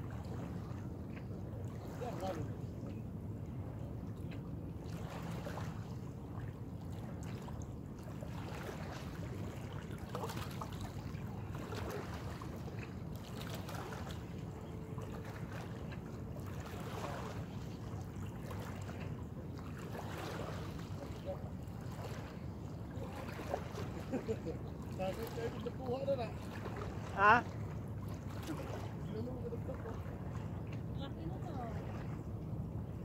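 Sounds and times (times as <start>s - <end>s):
low shoreline rumble: 0.0s - 33.0s.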